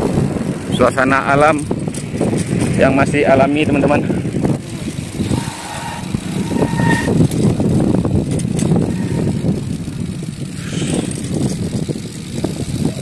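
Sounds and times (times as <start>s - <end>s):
bicycle tyre road rumble: 0.0s - 13.0s
wind buffeting microphone: 0.0s - 13.0s.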